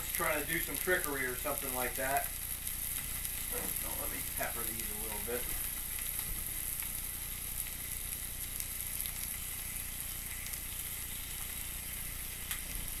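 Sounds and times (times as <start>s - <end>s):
steaks sizzling on grill pan: 0.0s - 13.0s.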